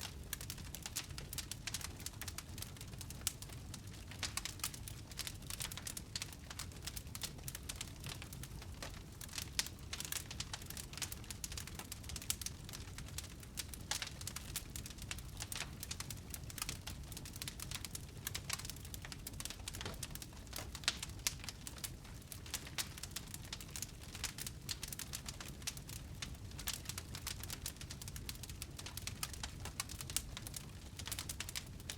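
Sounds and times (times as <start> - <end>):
low rumble of flame: 0.0 - 31.9
wood fire crackling and popping: 0.0 - 31.9.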